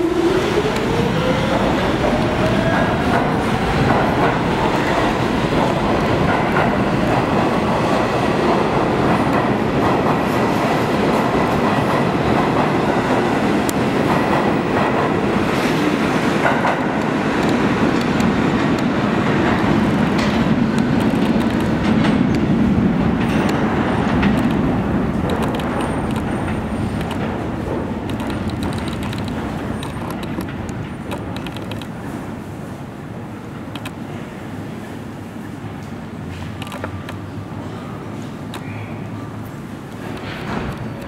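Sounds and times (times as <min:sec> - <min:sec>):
subway train wheels rumbling on rails: 0:00.0 - 0:41.0.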